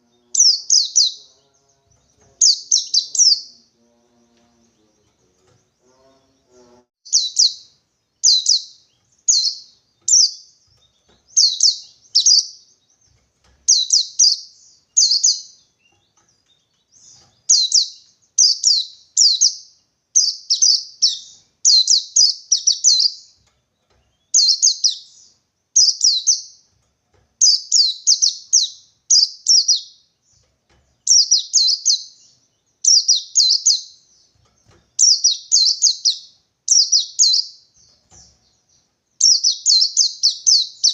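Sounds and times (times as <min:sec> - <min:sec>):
bird high rapid chirping: 0:00.2 - 0:03.7, 0:04.6 - 0:23.4, 0:24.0 - 0:26.7, 0:27.4 - 0:40.9.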